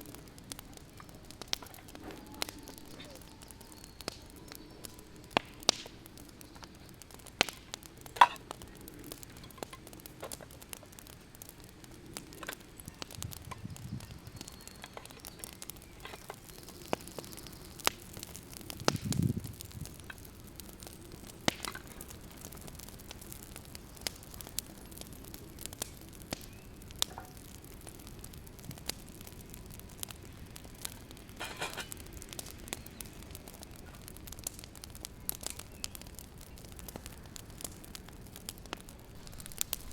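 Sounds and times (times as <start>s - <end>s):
food frying sizzle: 0.0s - 39.9s.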